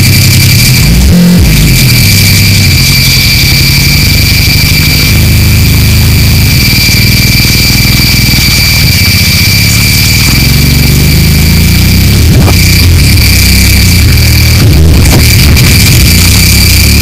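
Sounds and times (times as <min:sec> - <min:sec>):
distorted low buzz: 0:00.0 - 0:17.0
high whines: 0:00.0 - 0:17.0.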